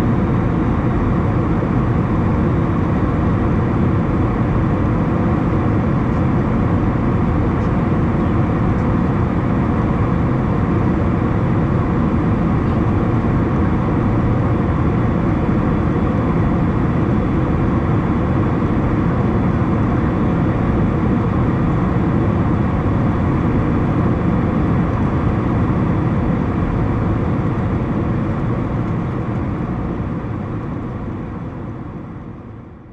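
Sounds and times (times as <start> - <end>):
aircraft cabin engine rush: 0.0 - 32.9.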